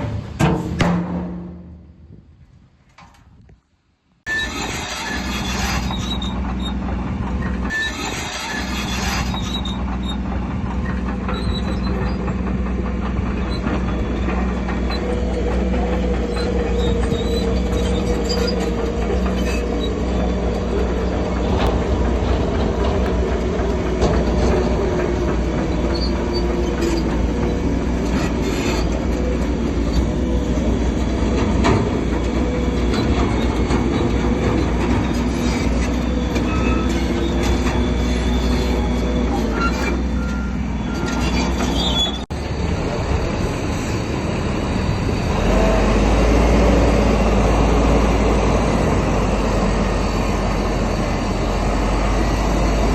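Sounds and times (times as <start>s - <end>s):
bulldozer diesel engine: 0.0s - 2.4s, 4.2s - 52.9s
steel tracks squealing: 4.3s - 52.9s.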